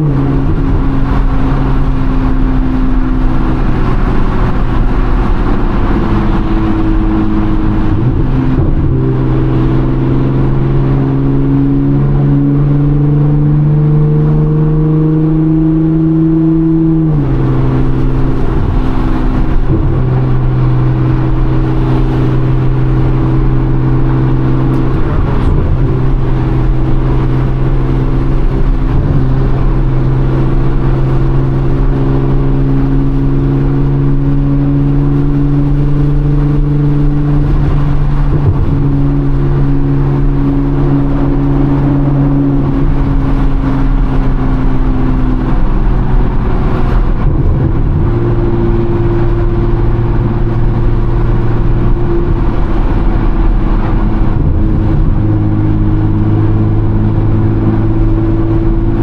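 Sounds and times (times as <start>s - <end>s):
car engine droning inside cabin: 0.0s - 59.0s.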